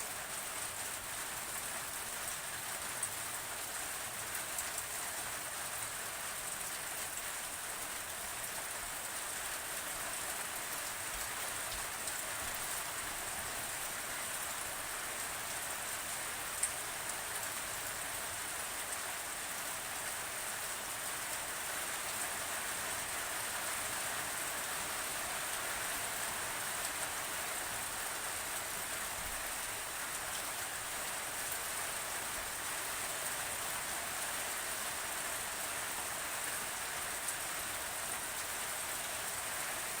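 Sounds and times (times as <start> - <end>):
rain falling: 0.0 - 40.0.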